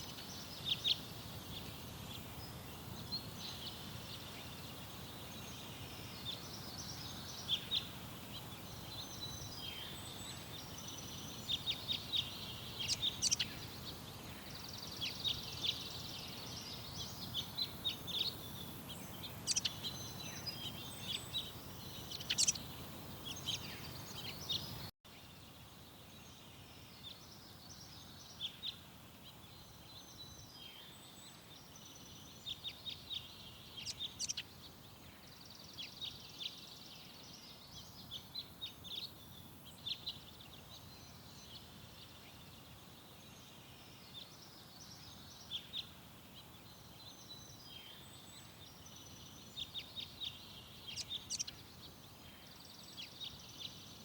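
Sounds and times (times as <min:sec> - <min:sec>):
birds chirping and singing: 0:00.0 - 0:24.9, 0:26.7 - 0:54.0
outdoor background noise: 0:00.0 - 0:54.0.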